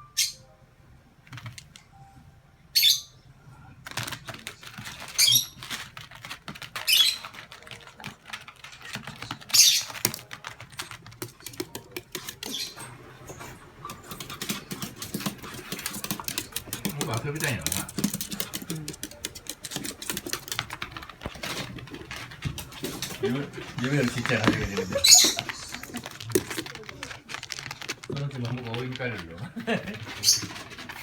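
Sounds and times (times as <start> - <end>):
claws clicking on hard floor: 3.9 - 31.0
animals scrabbling scuffles: 4.0 - 31.0.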